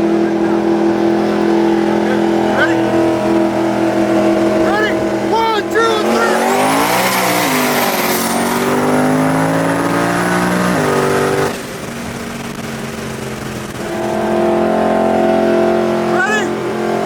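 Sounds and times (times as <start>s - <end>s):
car engine pulling hard: 0.0s - 17.0s.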